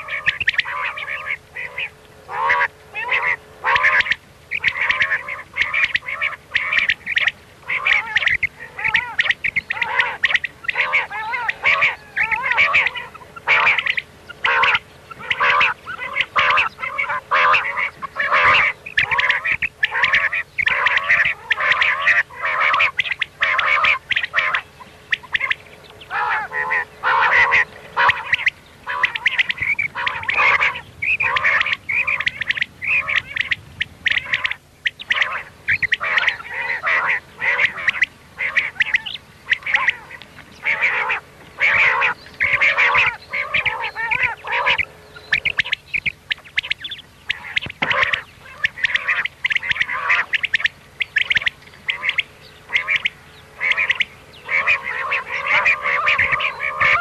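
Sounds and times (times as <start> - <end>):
quail calls: 0.0 - 57.0.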